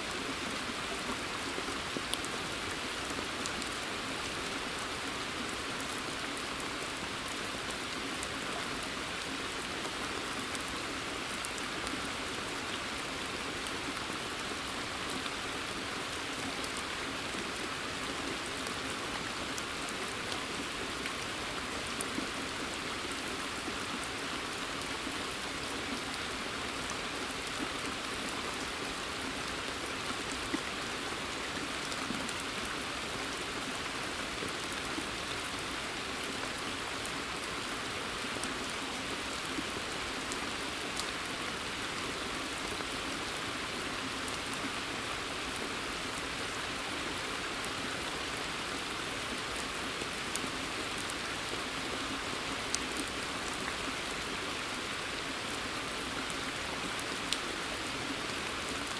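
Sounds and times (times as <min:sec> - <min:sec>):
rain falling on a pond: 0:00.0 - 0:58.9.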